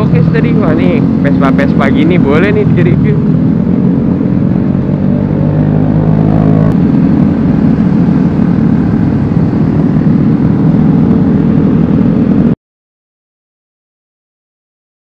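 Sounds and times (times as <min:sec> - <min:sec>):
scooter engine running: 0:00.0 - 0:12.6
wind and road noise rumble: 0:00.0 - 0:12.6.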